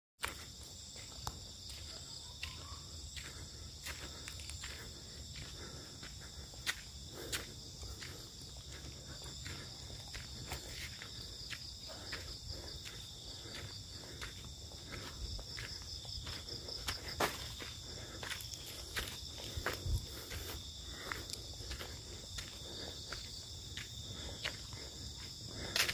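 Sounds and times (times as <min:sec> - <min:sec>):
insects chirring: 0:00.2 - 0:25.9.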